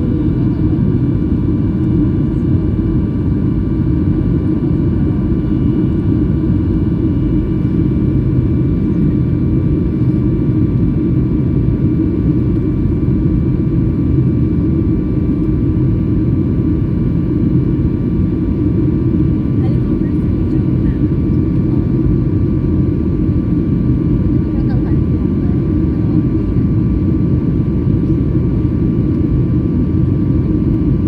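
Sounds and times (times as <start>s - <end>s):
jet airliner rumble: 0.0s - 31.0s.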